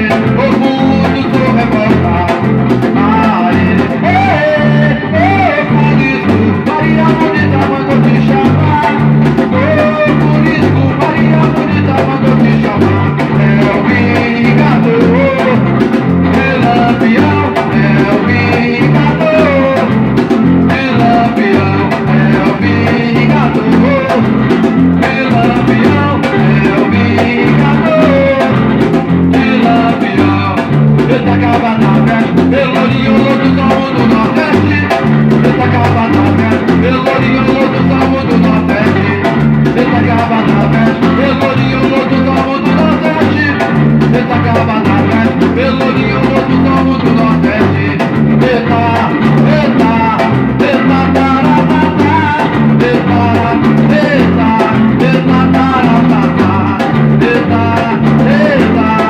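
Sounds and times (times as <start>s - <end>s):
band playing samba-reggae: 0.0s - 59.0s
guitar: 0.0s - 59.0s
person singing: 0.0s - 59.0s.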